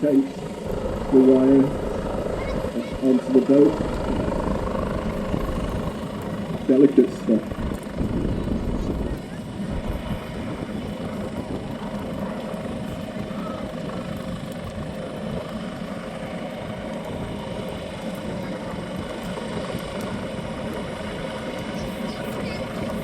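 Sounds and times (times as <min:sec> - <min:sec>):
helicopter hovering: 0:00.0 - 0:23.0.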